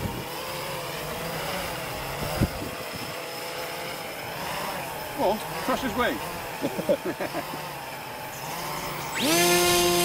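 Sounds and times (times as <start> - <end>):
model aircraft motor whining: 0.0 - 10.0.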